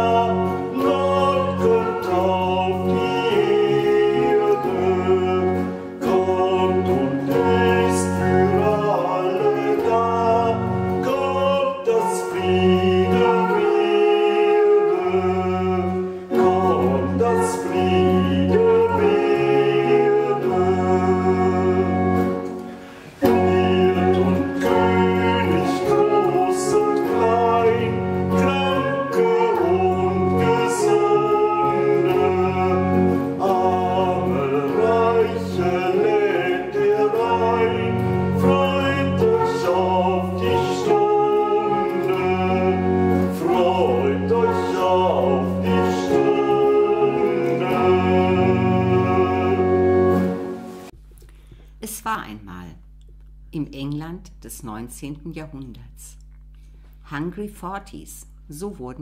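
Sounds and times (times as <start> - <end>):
voices singing: 0.0 - 50.9
church organ playing hymn: 0.0 - 51.0.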